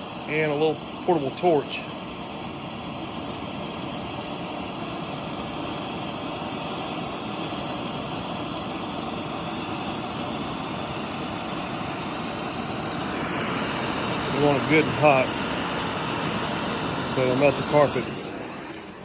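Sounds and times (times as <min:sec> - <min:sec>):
torch burning with rushing roar: 0:00.0 - 0:19.0.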